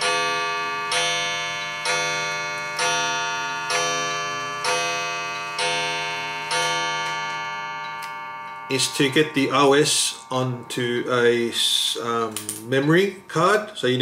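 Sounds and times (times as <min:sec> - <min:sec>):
bell-like ticking: 0:00.0 - 0:14.0.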